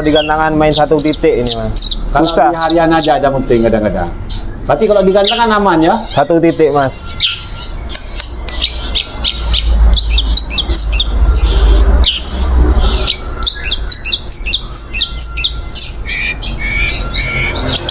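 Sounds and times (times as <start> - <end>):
shrike singing chirps: 0.0 - 17.9.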